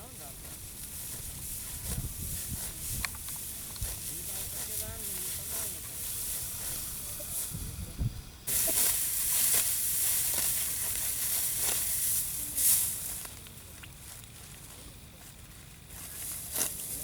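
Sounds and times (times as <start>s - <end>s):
dry wheat stalks rustling: 0.0s - 17.0s.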